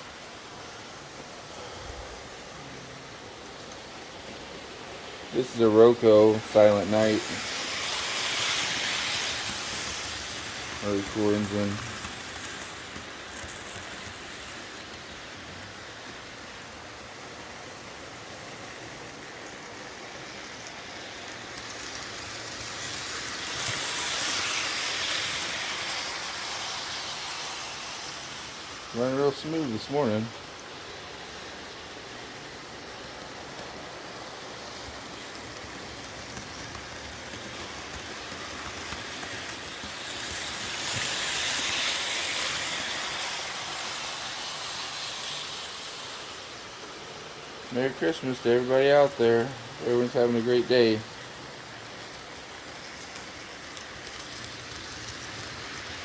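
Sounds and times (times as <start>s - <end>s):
model train rolling on track: 0.0s - 56.0s.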